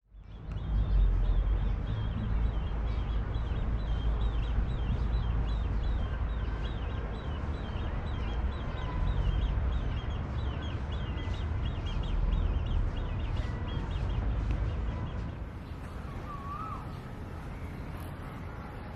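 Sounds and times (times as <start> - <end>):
bird chirping: 0.1 - 18.9.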